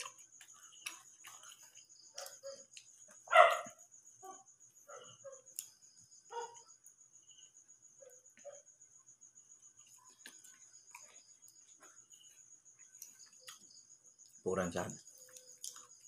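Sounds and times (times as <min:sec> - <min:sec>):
crickets chirping: 0:00.0 - 0:16.0
eating and handling noises: 0:00.0 - 0:16.0.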